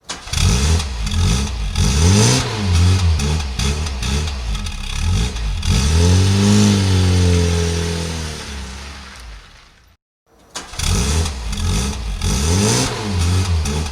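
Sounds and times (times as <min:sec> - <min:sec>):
engine revving: 0:00.1 - 0:09.8, 0:10.7 - 0:13.9.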